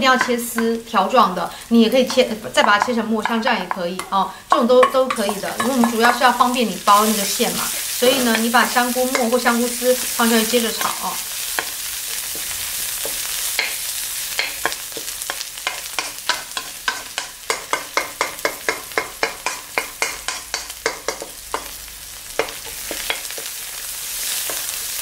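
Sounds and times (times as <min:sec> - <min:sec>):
food sizzling in oil: 0:00.0 - 0:25.0
spatula scraping a wok: 0:02.0 - 0:25.0.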